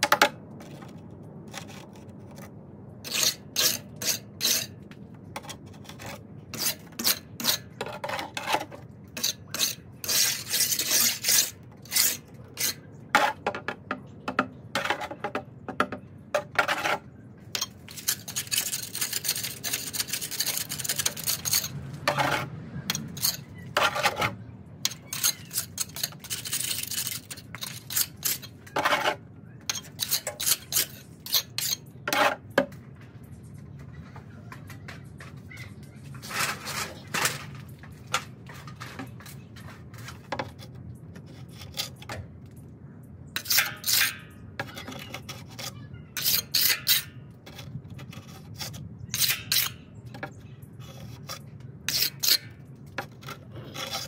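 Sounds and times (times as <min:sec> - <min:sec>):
trowel scraping on stucco: 0:00.0 - 0:15.8, 0:16.4 - 0:32.7, 0:36.1 - 0:42.3, 0:43.4 - 0:54.0.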